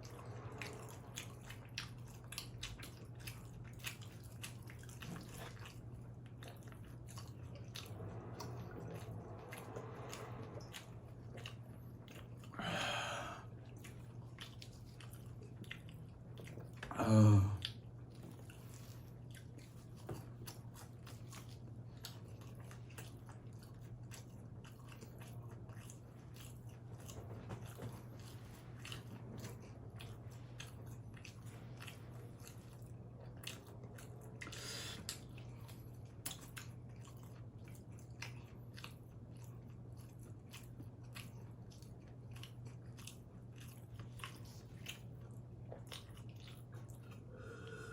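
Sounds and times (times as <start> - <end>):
chewing and biting pizza: 0.0 - 47.9
steady low hum: 0.0 - 47.9.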